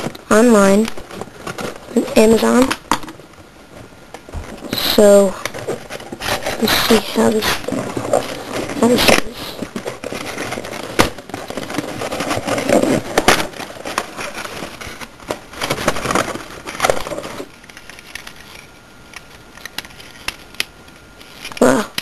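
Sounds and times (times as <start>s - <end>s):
plastic packaging crinkling: 0.0s - 21.7s.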